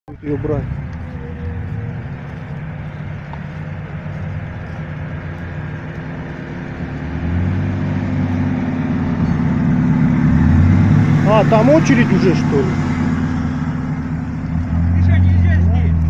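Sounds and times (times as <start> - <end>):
buggy engine revving: 0.1 - 16.0.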